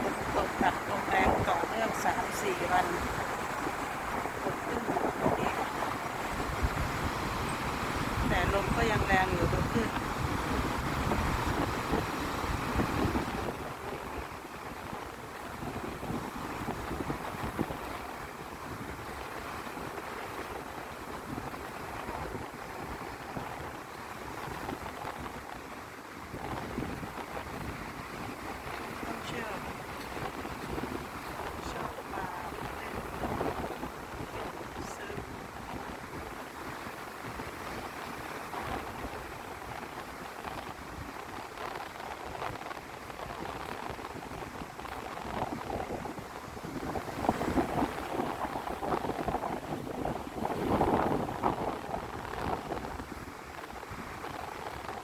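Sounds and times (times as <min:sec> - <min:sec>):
surf washing on shore: 0:00.0 - 0:55.0
waves breaking on beach: 0:00.0 - 0:55.0
wind buffeting microphone: 0:00.0 - 0:55.0.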